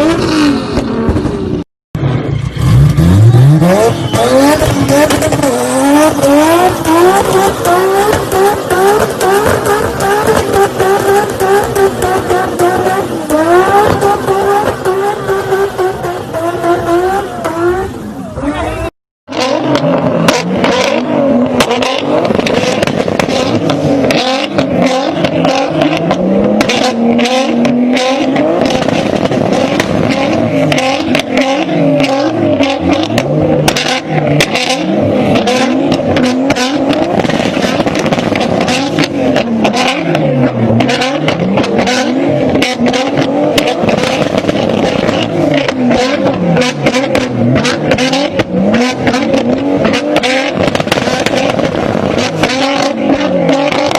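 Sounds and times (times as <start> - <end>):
car engine revving: 0.0 - 53.9
exhaust popping and crackling: 0.0 - 53.9.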